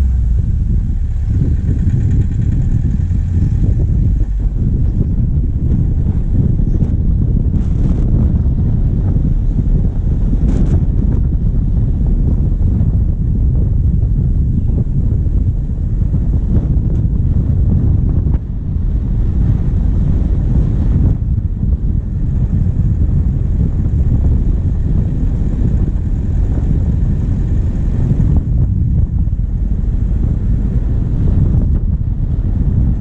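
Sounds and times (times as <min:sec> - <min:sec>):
diesel engine running: 0:00.0 - 0:33.0
wind buffeting microphone: 0:00.0 - 0:33.0.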